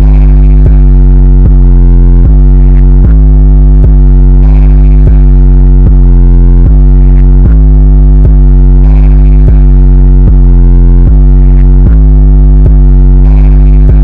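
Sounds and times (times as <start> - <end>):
distorted bass-heavy synthesizer music: 0.0 - 14.0.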